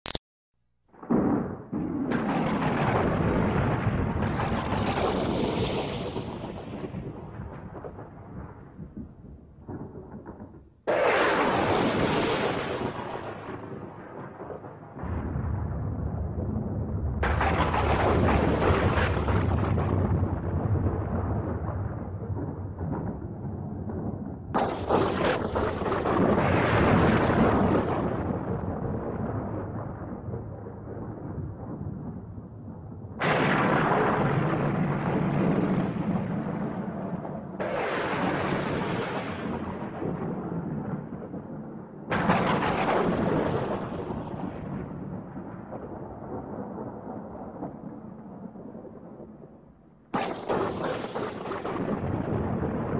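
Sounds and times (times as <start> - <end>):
rolling thunder: 0.9 - 52.9
thunder crack: 0.9 - 52.9.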